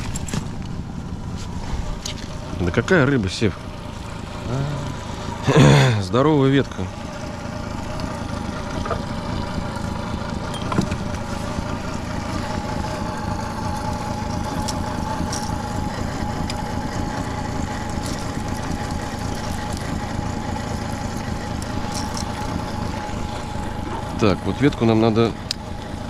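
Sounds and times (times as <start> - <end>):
outboard motor running: 0.0 - 26.0
thin steady whine: 0.0 - 26.0.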